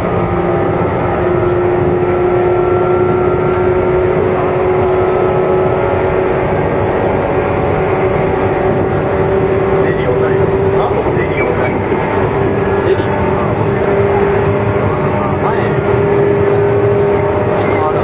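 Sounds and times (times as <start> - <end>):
electric train motor whine: 0.0 - 18.0
wheels rumbling on rail: 0.0 - 18.0.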